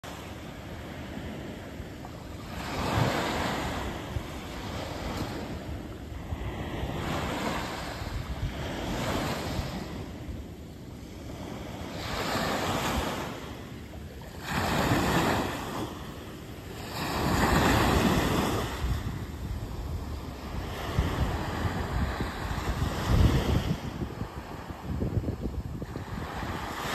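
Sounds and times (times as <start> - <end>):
small waves breaking on beach: 0.0 - 26.9.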